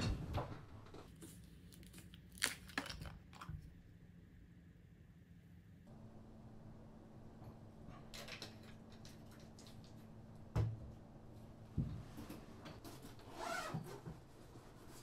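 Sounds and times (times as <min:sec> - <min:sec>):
faint steady hum: 0:00.1 - 0:13.0.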